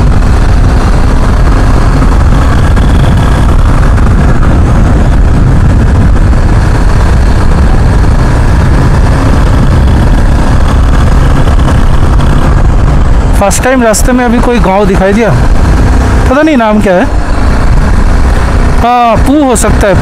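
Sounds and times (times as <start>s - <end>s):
motorcycle engine running: 0.0s - 20.0s
wind rushing on microphone: 0.0s - 20.0s.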